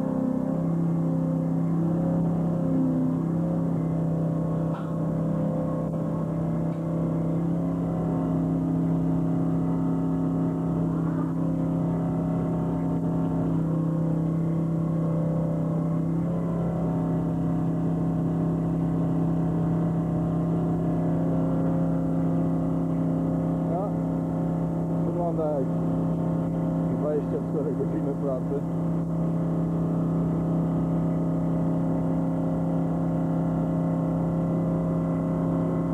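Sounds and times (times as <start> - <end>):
boat engine and machinery drone: 0.0 - 35.9.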